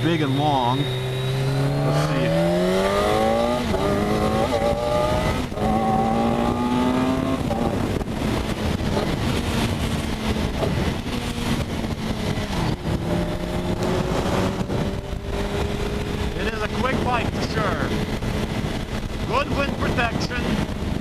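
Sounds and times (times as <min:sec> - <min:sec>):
motorcycle engine accelerating: 0:00.0 - 0:21.0
wind rush: 0:00.0 - 0:21.0.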